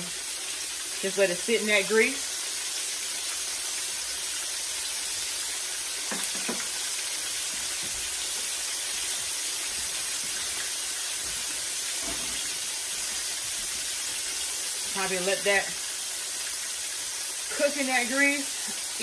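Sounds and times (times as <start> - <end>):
chicken frying in a pan: 0.0 - 19.0.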